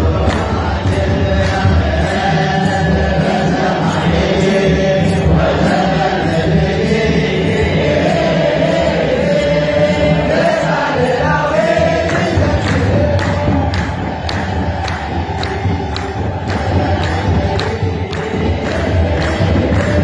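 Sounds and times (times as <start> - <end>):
men chanting a hymn: 0.0 - 20.0
steady beat: 0.0 - 20.0.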